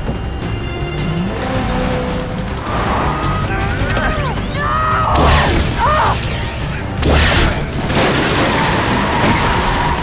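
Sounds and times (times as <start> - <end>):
dramatic film music: 0.0 - 10.0.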